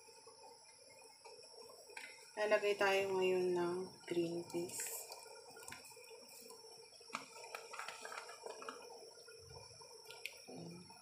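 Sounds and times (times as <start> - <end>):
pot simmering with bubbling: 0.0 - 11.0.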